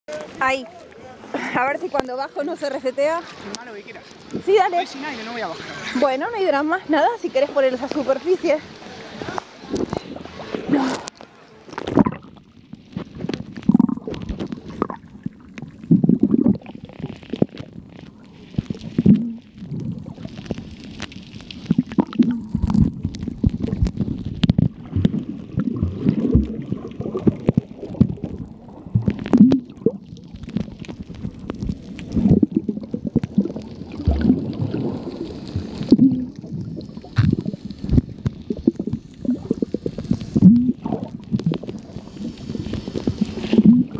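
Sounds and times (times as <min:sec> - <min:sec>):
underwater gurgling and sloshing: 0:00.2 - 0:43.9.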